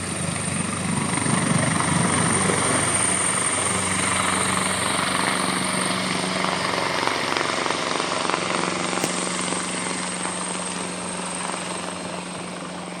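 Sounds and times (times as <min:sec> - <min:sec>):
helicopter rotor noise: 0:00.0 - 0:13.0.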